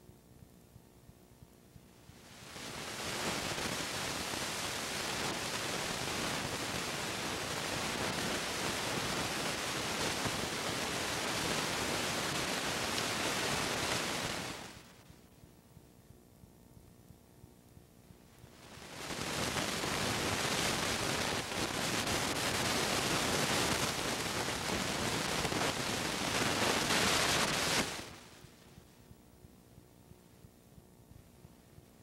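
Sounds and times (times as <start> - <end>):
static hiss: 0.7 - 15.9, 17.0 - 32.0.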